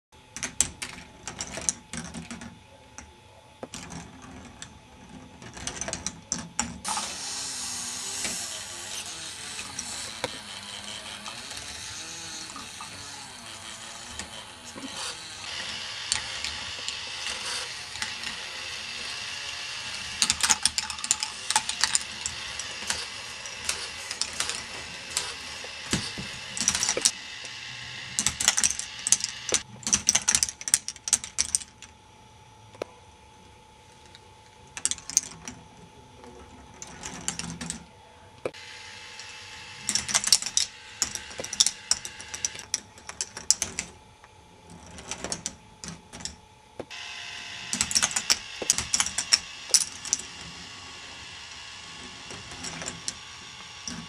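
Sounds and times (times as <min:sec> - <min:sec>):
steady whirr: 0:00.2 - 0:54.0
plastic gears clicking and rattling: 0:00.4 - 0:02.6, 0:03.6 - 0:31.9, 0:34.0 - 0:35.6, 0:36.6 - 0:37.9, 0:39.2 - 0:44.0, 0:44.7 - 0:47.0, 0:47.6 - 0:54.0.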